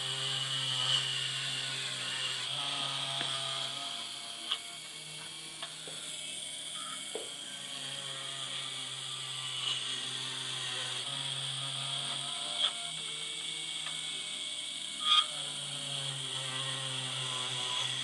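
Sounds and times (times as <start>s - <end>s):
drill motor whining: 0.0s - 18.0s.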